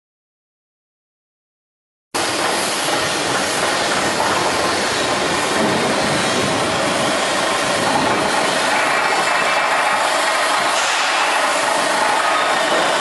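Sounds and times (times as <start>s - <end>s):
forklift running: 2.2s - 13.0s.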